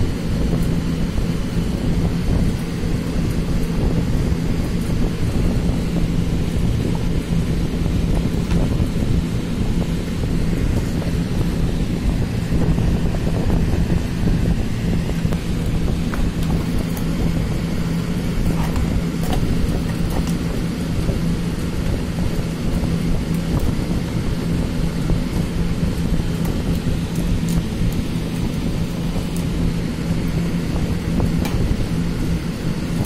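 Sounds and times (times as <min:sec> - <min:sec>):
machine hum and rumble: 0:00.0 - 0:33.0.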